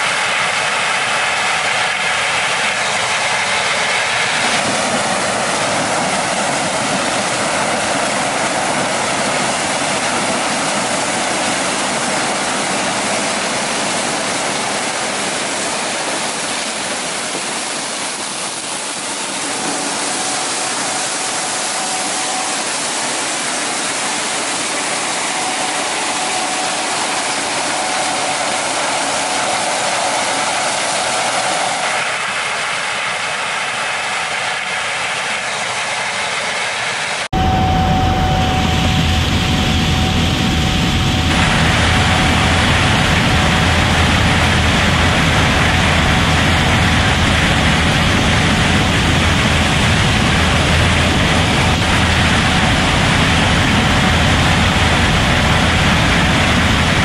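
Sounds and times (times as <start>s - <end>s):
combine harvester running: 0.0s - 57.0s
tractor running: 0.0s - 57.0s.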